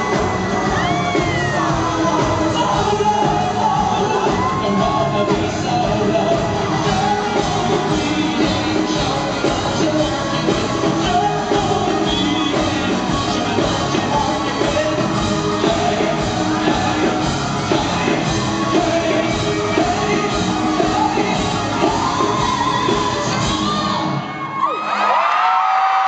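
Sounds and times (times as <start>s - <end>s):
man singing lead vocals: 0.0s - 24.1s
live rock band playing: 0.0s - 24.3s.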